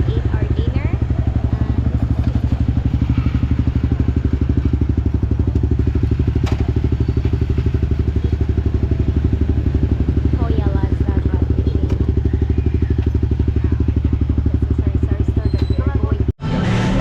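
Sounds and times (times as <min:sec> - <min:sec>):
motorcycle engine throbbing: 0:00.0 - 0:17.0.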